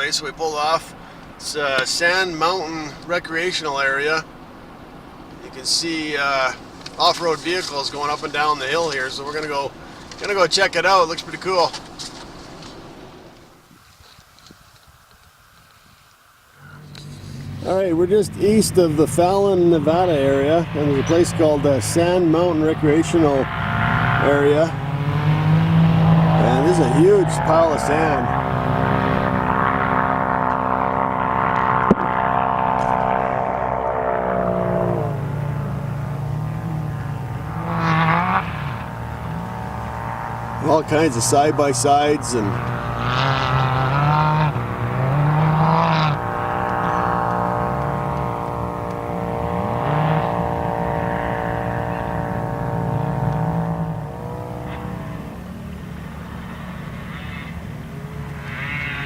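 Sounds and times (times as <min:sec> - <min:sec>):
vehicle engine droning: 0:00.0 - 0:15.4, 0:16.2 - 0:59.0.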